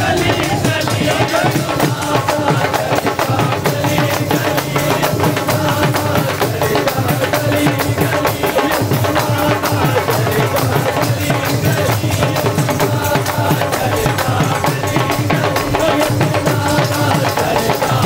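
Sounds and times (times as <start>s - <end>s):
drum beat: 0.0s - 18.0s
group singing a hymn: 0.0s - 18.0s
tambourines: 0.0s - 18.0s.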